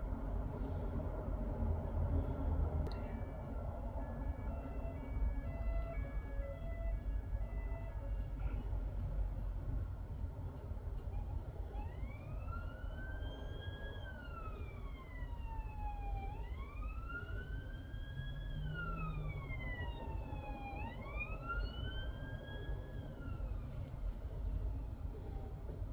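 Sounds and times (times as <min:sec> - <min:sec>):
low rumble of traffic: 0:00.0 - 0:25.9
police siren wailing: 0:02.9 - 0:09.1, 0:11.0 - 0:25.8.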